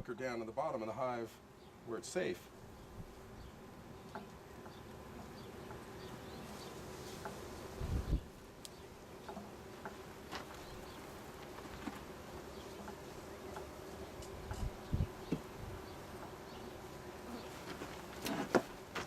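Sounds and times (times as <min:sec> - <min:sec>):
honey bees humming: 0:00.0 - 0:19.0.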